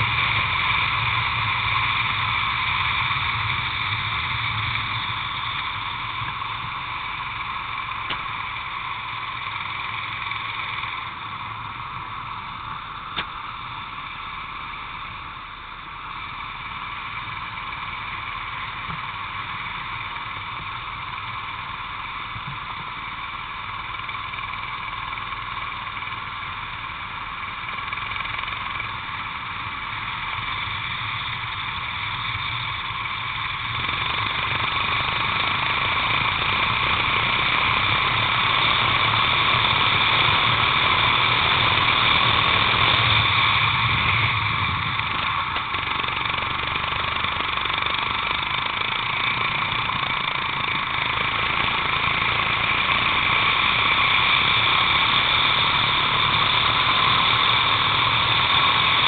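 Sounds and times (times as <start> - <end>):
kart engine at high revs: 0.0 - 59.0.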